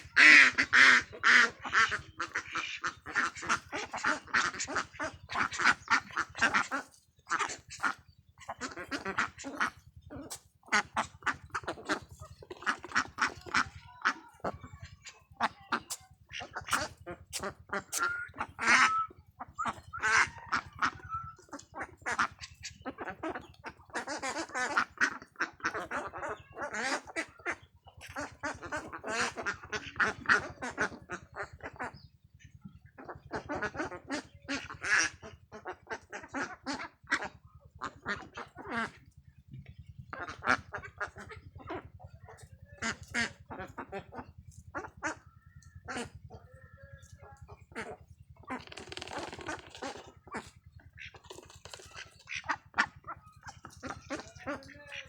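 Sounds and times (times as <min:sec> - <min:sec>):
ducks quacking: 0:00.0 - 0:55.0.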